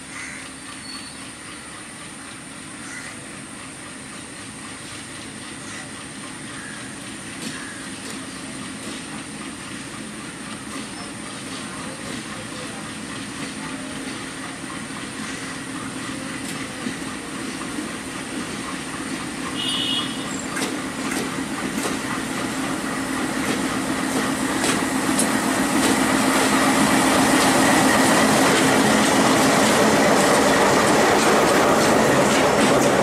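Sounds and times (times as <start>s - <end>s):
diesel locomotive engine drone: 0.0s - 33.0s
wheels clicking over rail joints: 0.0s - 33.0s.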